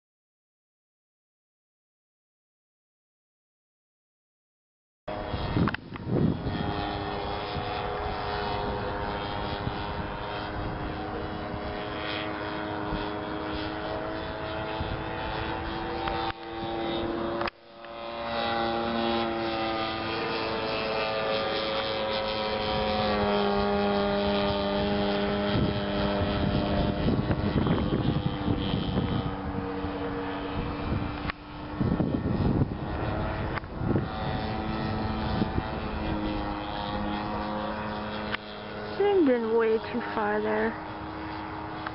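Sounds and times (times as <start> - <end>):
model plane engine and propeller: 5.1 - 41.9.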